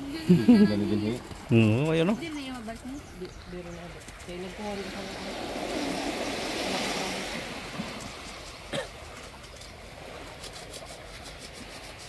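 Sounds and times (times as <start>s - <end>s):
sea and wind hush: 0.0s - 12.0s.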